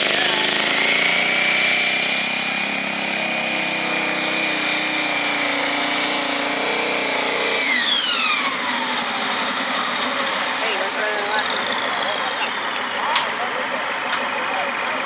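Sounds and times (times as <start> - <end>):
truck engine at high revs: 0.0 - 15.0.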